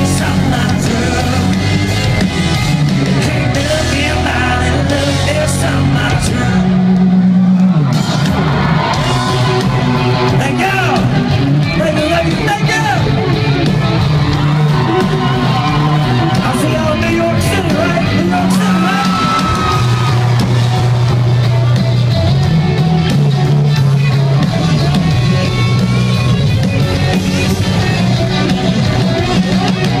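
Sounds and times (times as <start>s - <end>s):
country-rock band playing: 0.0s - 30.0s
crowd yelling and cheering: 0.0s - 30.0s.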